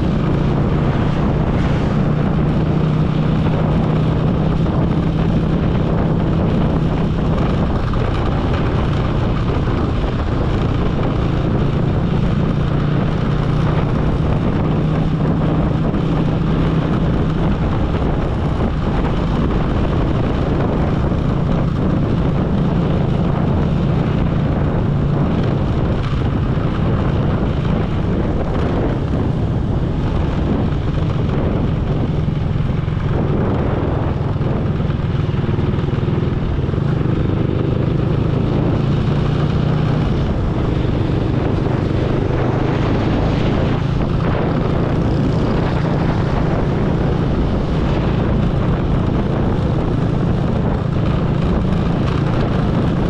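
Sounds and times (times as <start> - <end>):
motorcycle engine running: 0.0 - 53.0
wind noise on microphone: 0.0 - 53.0.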